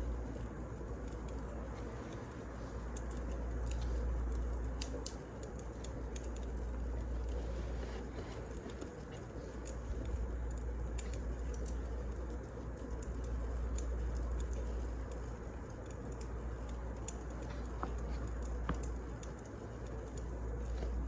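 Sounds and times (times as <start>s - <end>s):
low steady rumble: 0.0s - 21.0s
wood fire crackling: 0.0s - 21.0s.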